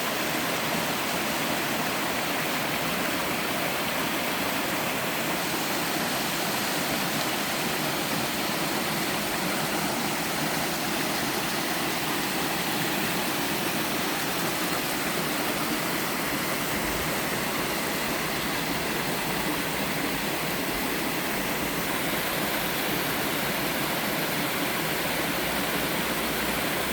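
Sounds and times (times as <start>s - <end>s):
waterfall pouring and splashing: 0.0s - 26.9s.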